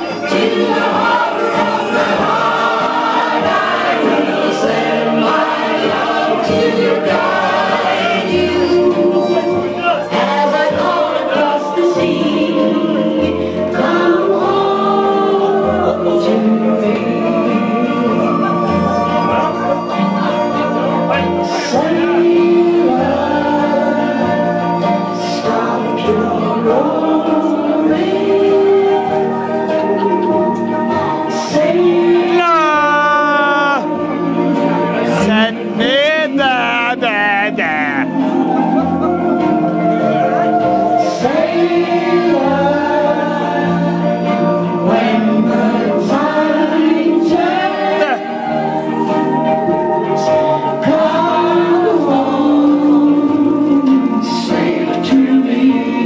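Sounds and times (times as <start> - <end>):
group of voices singing: 0.0 - 56.0.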